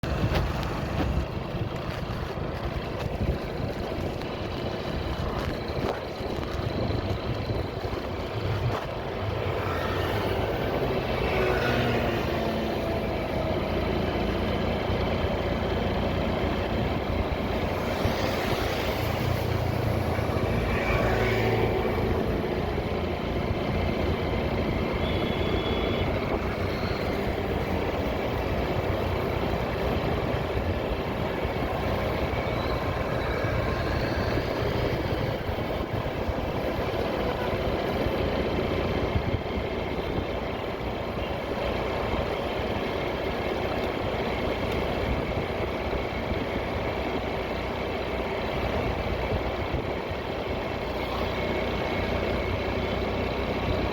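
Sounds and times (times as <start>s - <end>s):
motorcycle engine and road noise: 0.0s - 53.9s.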